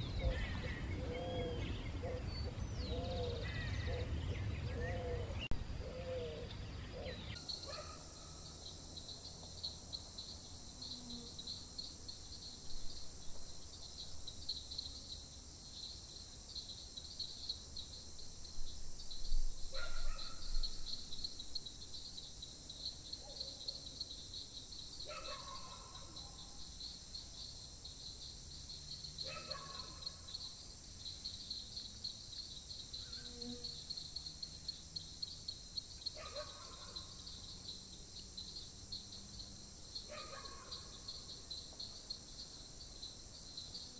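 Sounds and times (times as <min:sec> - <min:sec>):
night insects trilling: 0:04.8 - 0:43.9.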